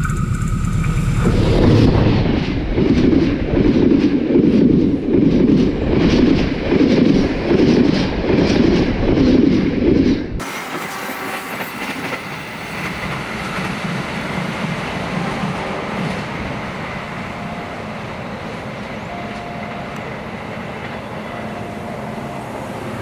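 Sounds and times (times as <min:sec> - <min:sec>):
train wheels rumbling on rail: 0:00.1 - 0:23.0.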